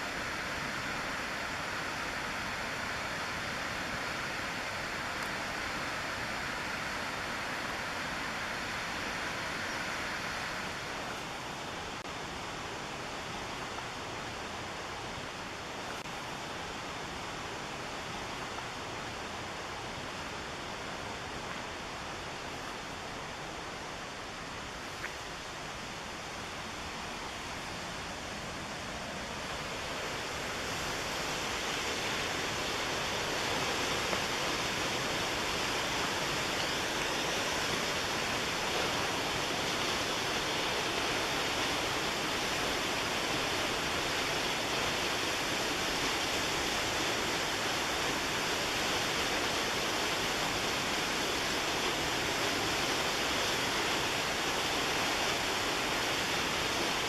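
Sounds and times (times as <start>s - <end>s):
fast river rushing: 0.0s - 57.0s.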